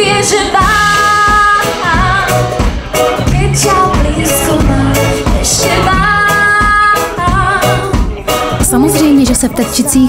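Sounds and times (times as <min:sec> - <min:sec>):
woman singing into microphone: 0:00.0 - 0:02.6, 0:03.2 - 0:10.0
band accompaniment: 0:00.0 - 0:10.0.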